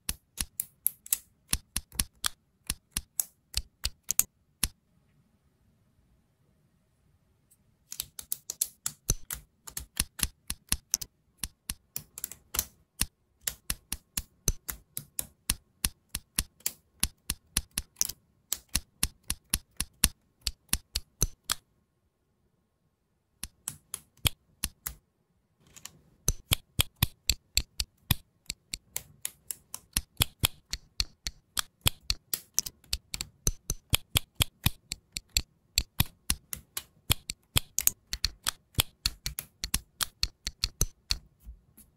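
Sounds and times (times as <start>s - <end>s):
plastic parts clicking together: 0.0s - 4.8s, 7.9s - 21.6s, 25.6s - 41.3s.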